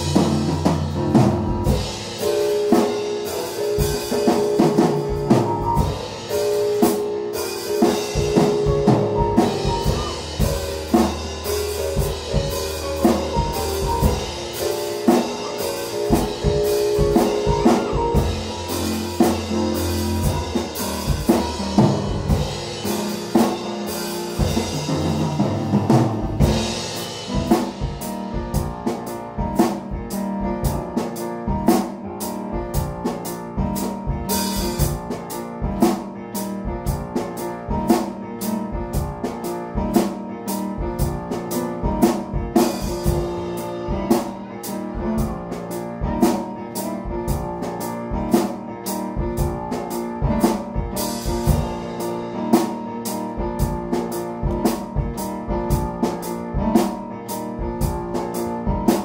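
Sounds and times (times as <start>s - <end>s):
drum beat: 0.0s - 59.0s
keyboard chords: 0.0s - 59.0s.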